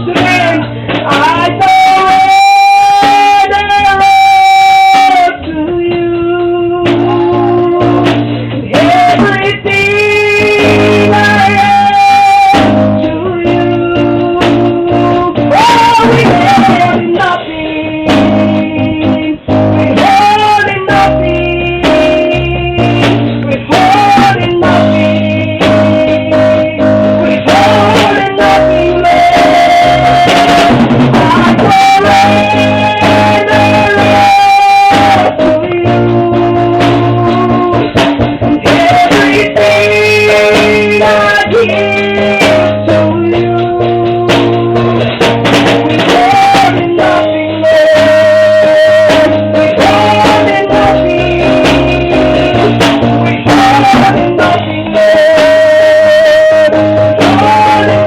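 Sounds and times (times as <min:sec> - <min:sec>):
guitar: 0:00.0 - 0:58.0
worship song singing: 0:00.0 - 0:58.0.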